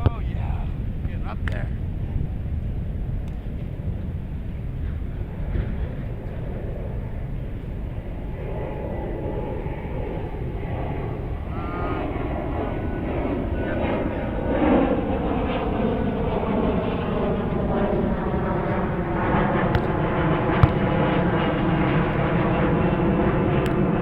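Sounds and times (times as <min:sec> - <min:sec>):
propeller airplane engine droning: 0:00.0 - 0:24.0
wind rumbling on microphone: 0:00.0 - 0:24.0.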